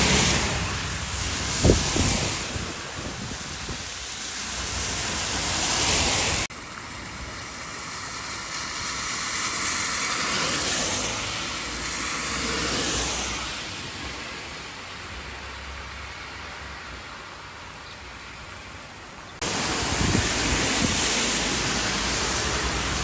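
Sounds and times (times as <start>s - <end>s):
tyres hissing on wet road: 0.0s - 23.0s.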